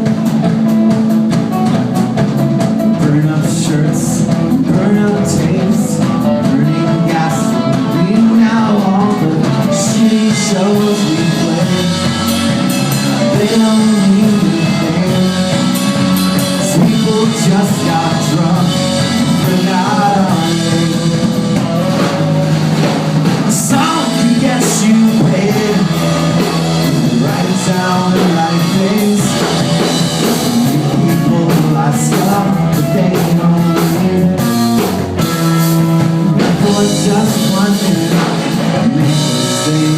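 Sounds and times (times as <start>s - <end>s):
drum kit: 0.0s - 39.9s
guitar: 0.0s - 39.9s
rock band playing: 0.0s - 39.9s.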